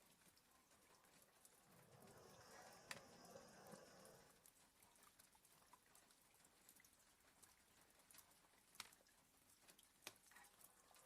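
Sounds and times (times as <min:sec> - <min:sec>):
light rain tapping on window: 0:00.0 - 0:11.0.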